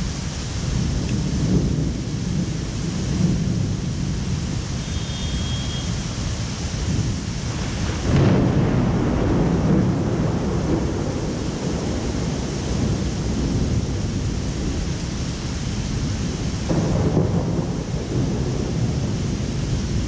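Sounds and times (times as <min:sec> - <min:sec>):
rain hissing: 0:00.0 - 0:20.0
thunder rumbling: 0:00.0 - 0:20.0.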